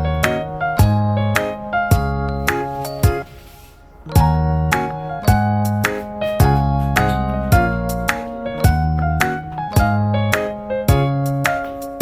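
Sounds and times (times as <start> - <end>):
plucked and keyboard music: 0.0 - 12.0.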